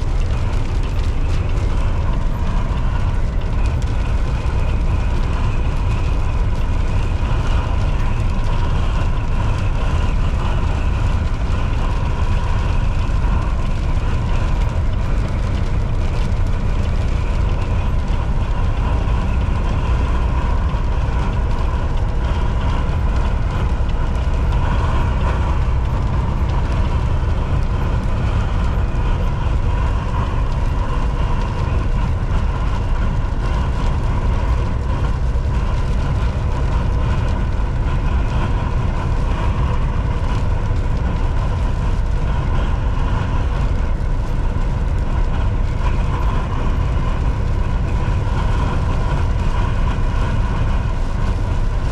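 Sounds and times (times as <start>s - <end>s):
diesel engine drone: 0.0s - 51.9s
faint steady whine: 0.0s - 51.9s
tyre and road noise: 0.0s - 51.9s.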